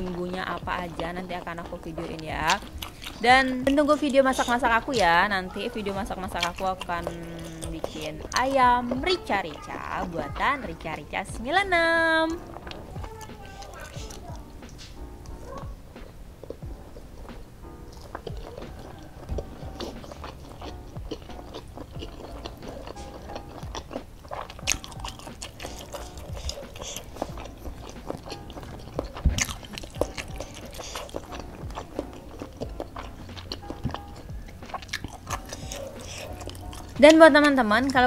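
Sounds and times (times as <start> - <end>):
faint background music: 0.0 - 38.0
person chewing food: 0.0 - 38.0.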